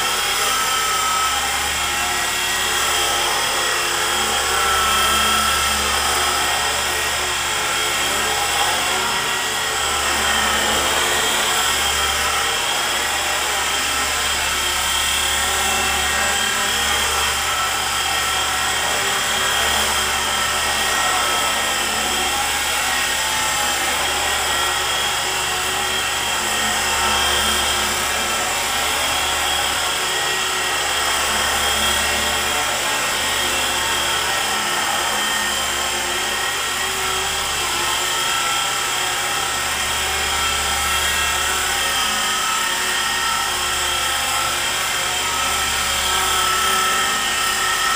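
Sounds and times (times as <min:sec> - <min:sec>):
electric motor whine: 0:00.0 - 0:47.9.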